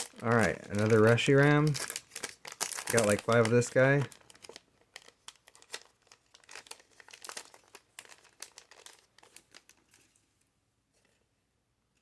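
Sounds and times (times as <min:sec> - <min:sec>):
trading cards and wrapping crinkling: 0:00.0 - 0:11.2.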